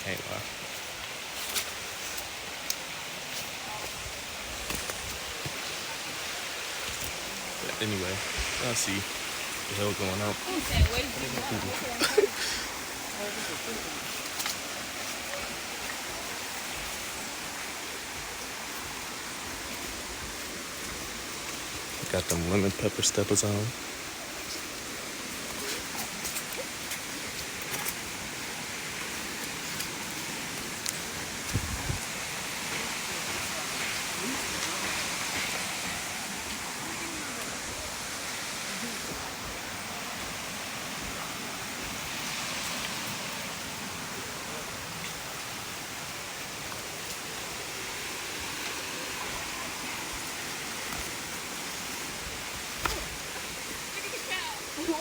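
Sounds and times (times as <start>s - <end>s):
rushing water hiss: 0.0s - 55.0s.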